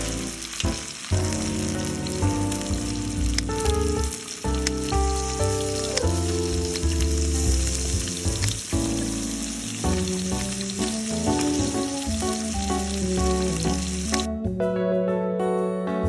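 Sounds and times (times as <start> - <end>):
steady hiss: 0.0 - 14.3
background music: 0.0 - 16.0.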